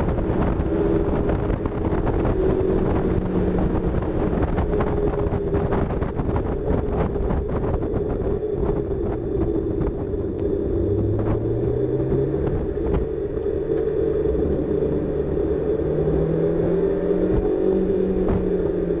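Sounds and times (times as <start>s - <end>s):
car engine pulling under load: 0.0s - 19.0s
road noise: 0.0s - 19.0s
wind noise: 0.0s - 19.0s.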